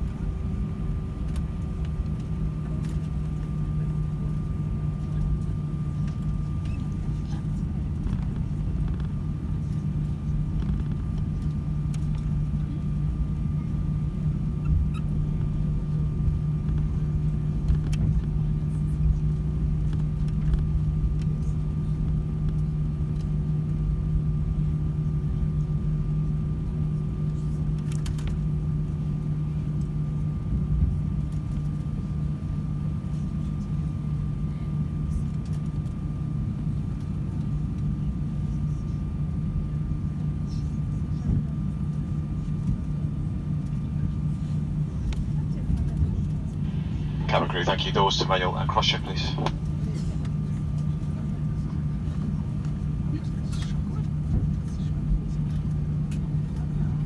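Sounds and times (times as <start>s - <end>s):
aircraft engines humming: 0.0s - 57.0s
faint steady whine: 0.0s - 57.0s.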